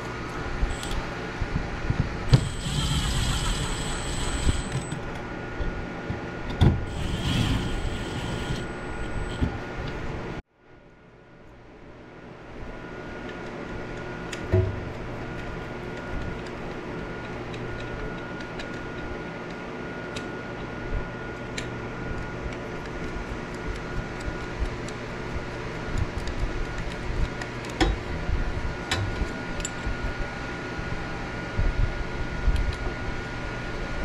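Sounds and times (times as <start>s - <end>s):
steady hum and hiss: 0.0s - 34.0s.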